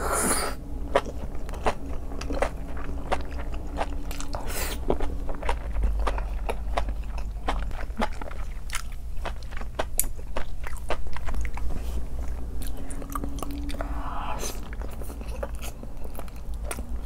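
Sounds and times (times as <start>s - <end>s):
chewing and biting food: 0.3s - 17.0s.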